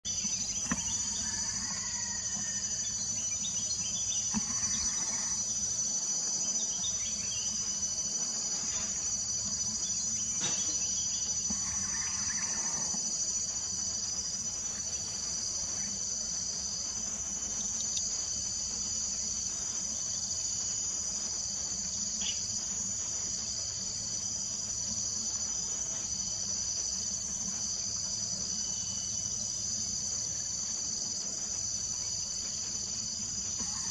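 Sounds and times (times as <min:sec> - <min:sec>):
insects chorus: 0:00.0 - 0:33.9
pulsing insect call: 0:00.0 - 0:33.9.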